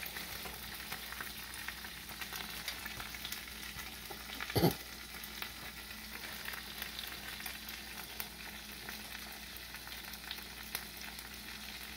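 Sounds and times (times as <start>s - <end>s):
potatoes sizzling in waffle iron: 0.0s - 11.9s.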